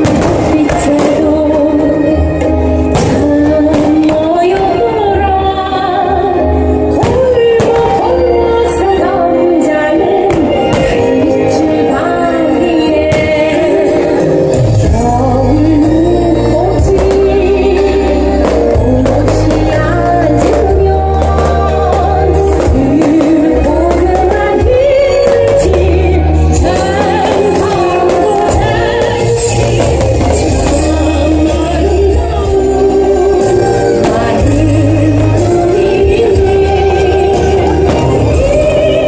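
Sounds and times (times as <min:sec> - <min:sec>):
loud music with singing: 0:00.0 - 0:39.0.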